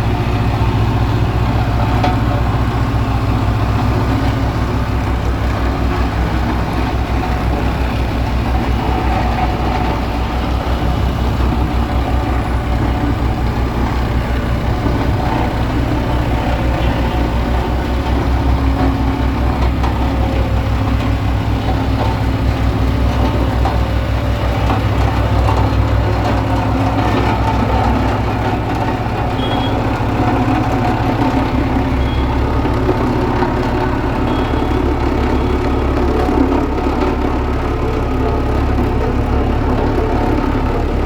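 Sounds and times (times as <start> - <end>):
diesel engine of heavy machinery: 0.0 - 41.0.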